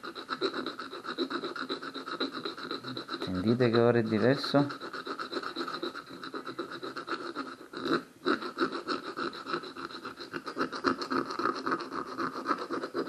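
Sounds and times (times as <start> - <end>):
hand file scraping metal: 0.0 - 13.0.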